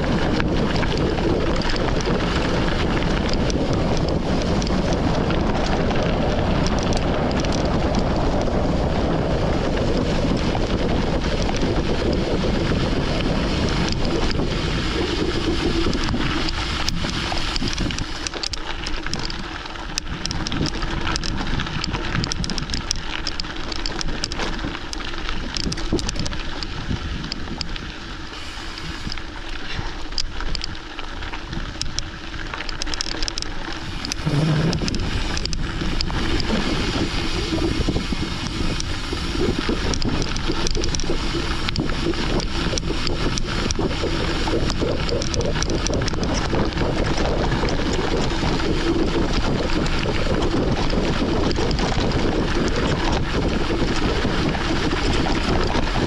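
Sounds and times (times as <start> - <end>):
bike rattling over stones: 0.0 - 56.0
wind buffeting microphone: 0.0 - 56.0.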